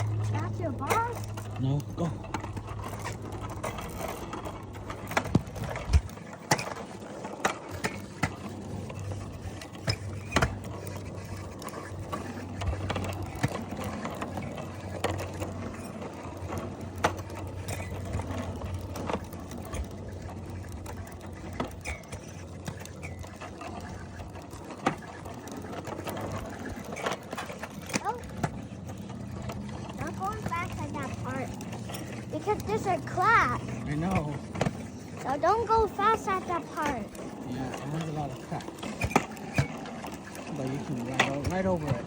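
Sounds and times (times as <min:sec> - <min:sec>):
bicycle clicks and rattles: 0:00.0 - 0:42.0
bicycle low hum: 0:00.0 - 0:42.0.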